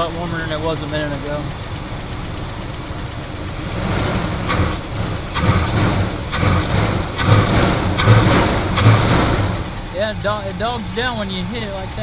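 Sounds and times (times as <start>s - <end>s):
car engine running: 0.0s - 12.0s
engine throttle blips: 0.0s - 12.0s.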